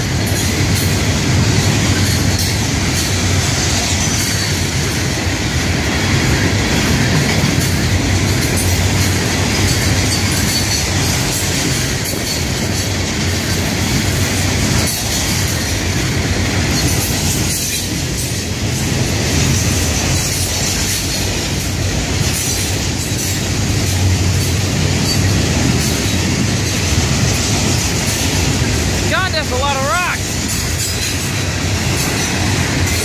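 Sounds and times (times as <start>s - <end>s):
wheels clattering and clacking: 0.0s - 29.0s, 30.2s - 33.0s
freight train wheels rumbling: 0.0s - 33.0s.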